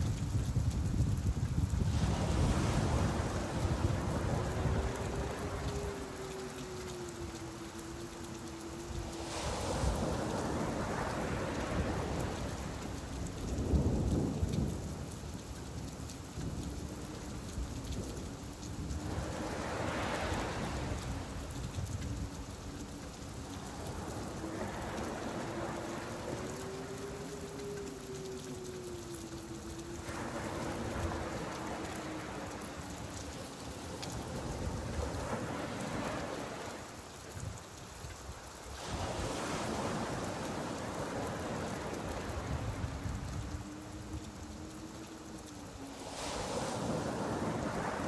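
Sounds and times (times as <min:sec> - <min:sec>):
steady rain falling: 0:00.0 - 0:48.0
surf washing: 0:00.0 - 0:48.0.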